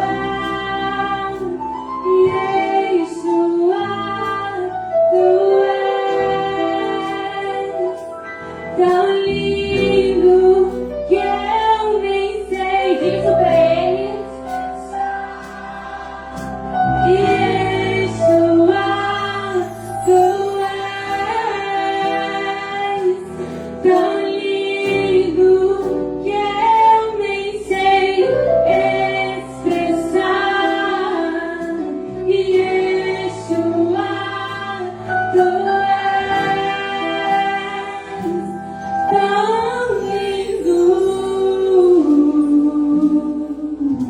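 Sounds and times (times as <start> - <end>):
orchestra playing slow worship song: 0.0 - 44.0.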